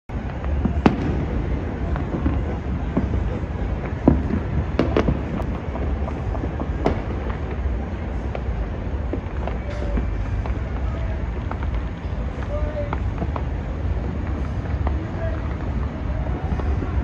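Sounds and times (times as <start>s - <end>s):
distant fireworks popping and cracking: 0.1s - 17.0s
steady low rumble: 0.1s - 17.0s.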